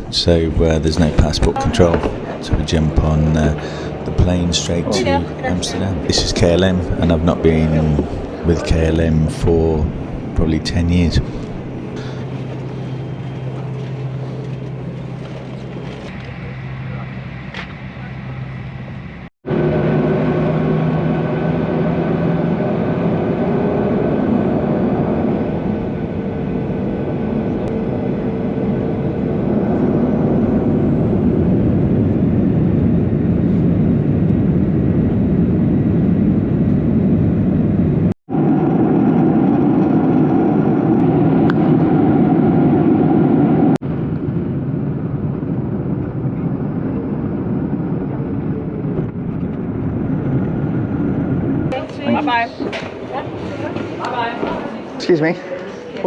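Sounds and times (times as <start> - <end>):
jet engines and airflow in cabin: 0.0 - 56.0.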